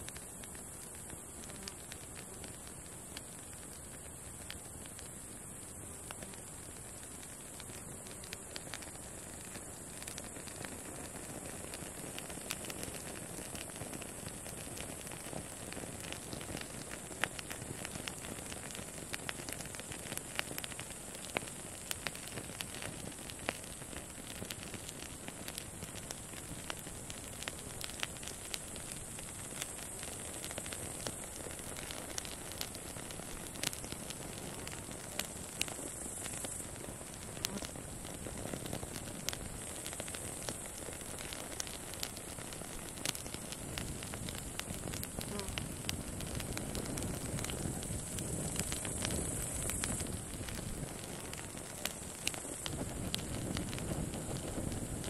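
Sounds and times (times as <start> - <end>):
campfire crackling and popping: 0.0 - 55.0
grasshoppers chirring: 5.0 - 55.0.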